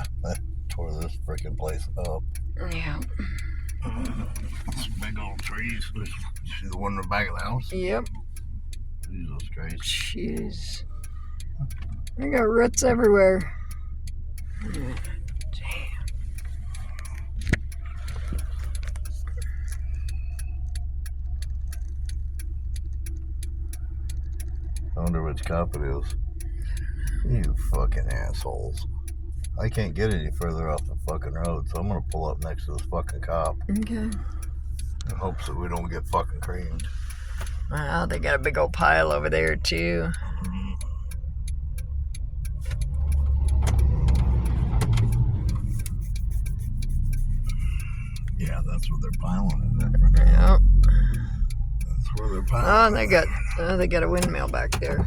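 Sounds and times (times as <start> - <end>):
road and engine rumble: 0.0 - 55.0
turn signal ticking: 0.0 - 55.0.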